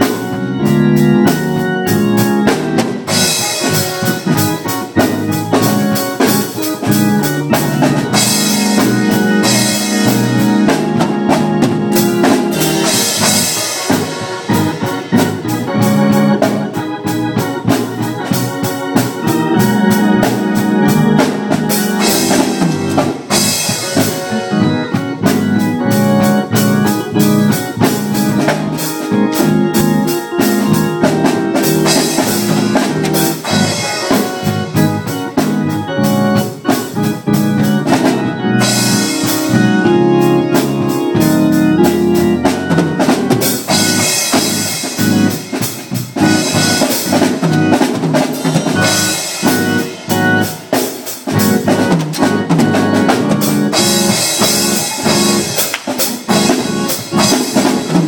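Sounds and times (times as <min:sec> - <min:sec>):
drum kit groove: 0:00.0 - 0:58.0
held organ chords: 0:00.0 - 0:58.0.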